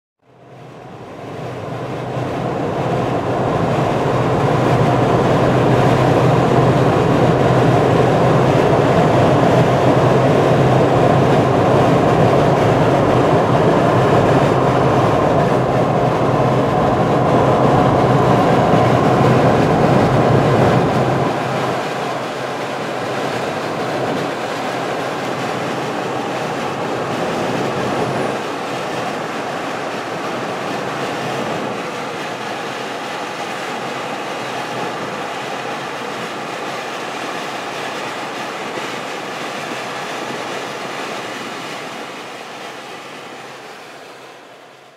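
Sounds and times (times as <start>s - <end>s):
highway traffic rumble: 0.2s - 44.9s.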